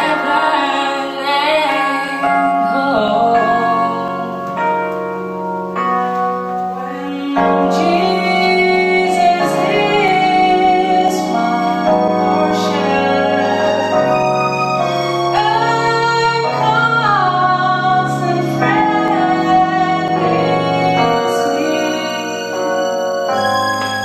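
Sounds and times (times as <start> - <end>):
woman singing into microphone: 0.0 - 4.9, 6.8 - 14.2, 15.3 - 22.9
held chord accompaniment: 0.0 - 24.0.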